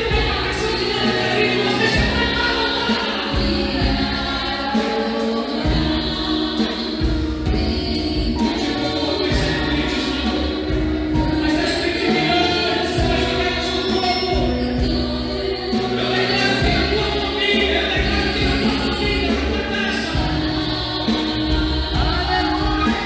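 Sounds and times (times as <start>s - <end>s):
band with steady beat: 0.0s - 23.0s
group of voices singing: 0.0s - 23.0s.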